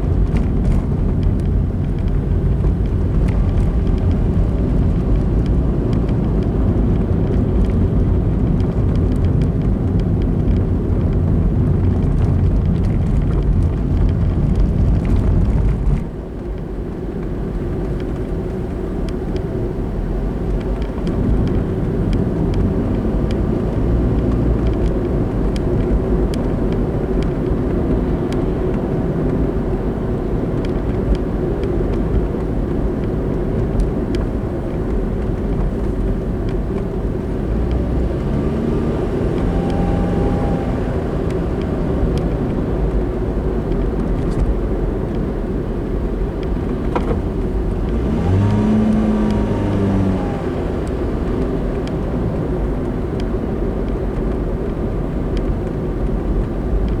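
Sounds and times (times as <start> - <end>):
car tyre and engine rumble: 0.0 - 57.0.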